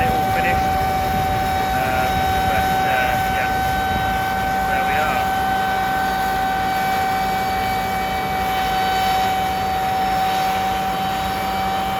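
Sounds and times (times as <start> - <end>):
high whine: 0.0 - 11.9.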